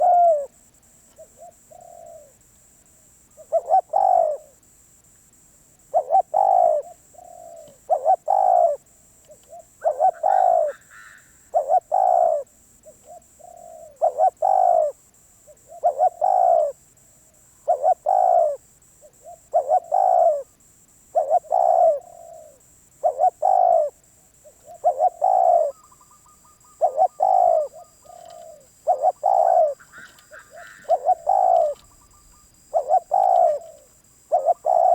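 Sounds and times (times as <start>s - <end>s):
dove cooing: 0.0s - 2.4s, 3.4s - 4.6s, 5.9s - 16.8s, 17.6s - 20.5s, 21.1s - 34.9s.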